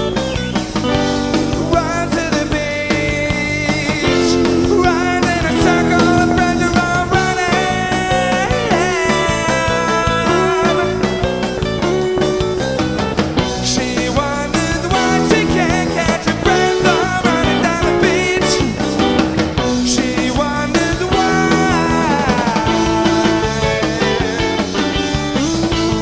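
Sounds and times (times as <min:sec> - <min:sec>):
bass: 0:00.0 - 0:26.0
drums: 0:00.0 - 0:26.0
electric guitar: 0:00.0 - 0:26.0
indie rock band playing live: 0:00.0 - 0:26.0.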